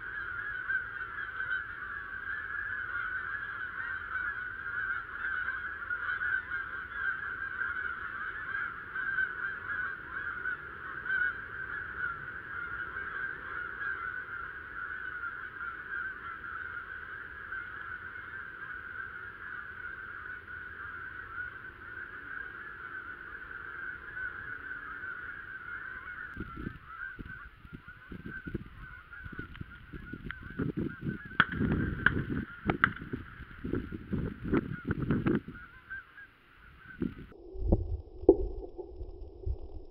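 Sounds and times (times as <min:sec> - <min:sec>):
geese honking: 0:00.0 - 0:37.3.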